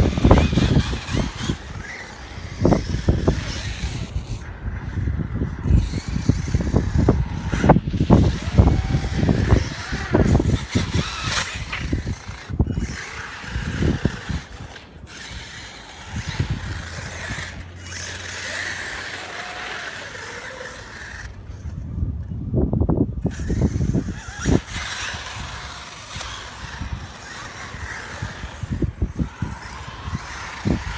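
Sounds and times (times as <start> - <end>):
electric motor whining: 0.0 - 22.4, 23.2 - 30.9
wind buffeting microphone: 0.0 - 30.9.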